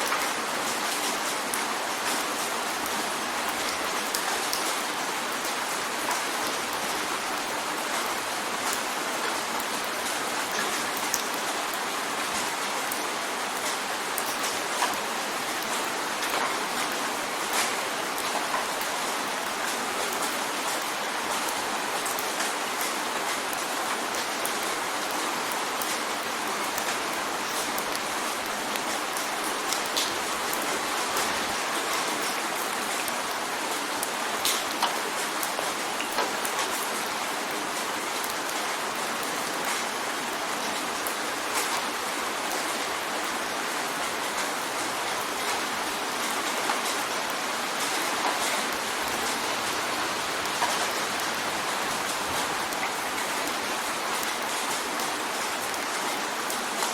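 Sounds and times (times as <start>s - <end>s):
rain drumming on a window: 0.0s - 56.9s.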